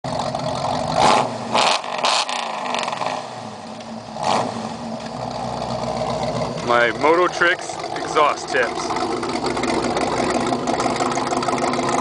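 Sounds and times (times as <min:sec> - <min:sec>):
vehicle engine idling and blipped: 0:00.0 - 0:12.0.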